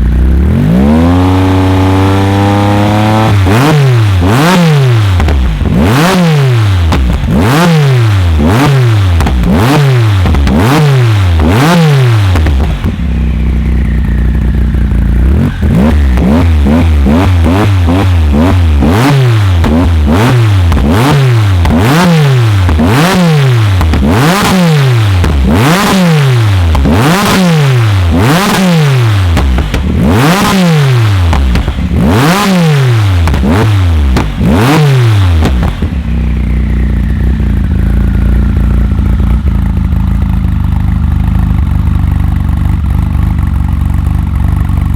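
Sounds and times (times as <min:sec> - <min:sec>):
car engine revving: 0:00.0 - 0:41.7
exhaust cracks: 0:00.0 - 0:44.9.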